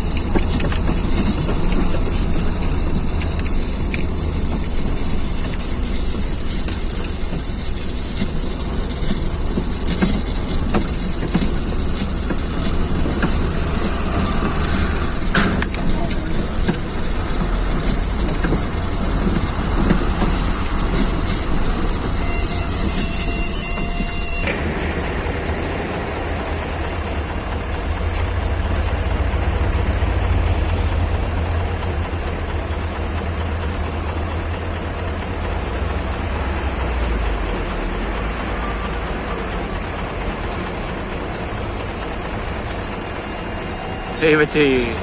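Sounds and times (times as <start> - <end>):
thin high whine: 0.0 - 35.7, 37.7 - 45.0
heavy vehicle engine running: 0.0 - 45.0.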